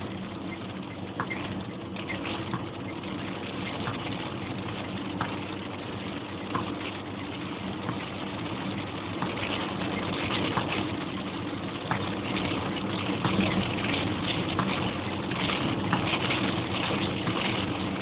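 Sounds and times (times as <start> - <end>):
car engine running: 0.0 - 18.0
rain tapping on car: 0.0 - 18.0.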